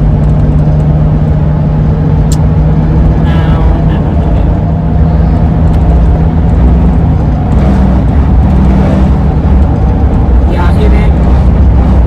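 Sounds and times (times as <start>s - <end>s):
steady low hum: 0.0s - 12.0s
van cabin driving rumble: 0.0s - 12.0s.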